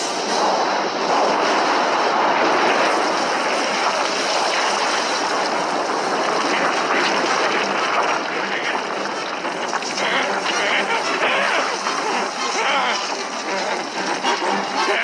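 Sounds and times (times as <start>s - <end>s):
power-up rushing roar effect: 0.0s - 15.0s.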